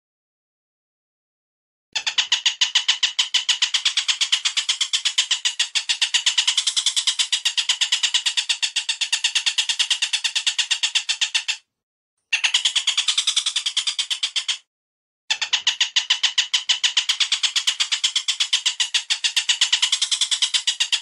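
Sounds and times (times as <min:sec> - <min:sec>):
bird call with rapid harsh notes: 0:02.0 - 0:11.7, 0:12.3 - 0:14.7, 0:15.3 - 0:21.0.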